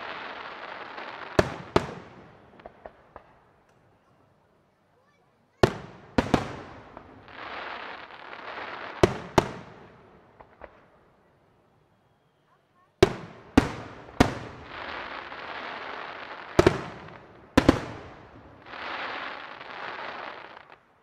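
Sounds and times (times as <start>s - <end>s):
hissing crackle of fireworks: 0.0s - 4.0s, 4.9s - 21.0s.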